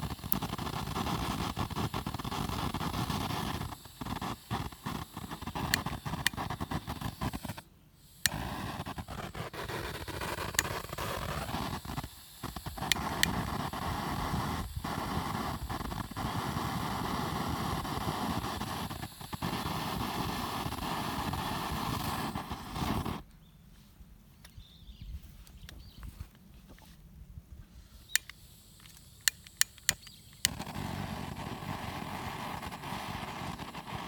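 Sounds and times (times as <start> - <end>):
arc welding crackling hiss: 0.0 - 23.2, 28.0 - 34.0.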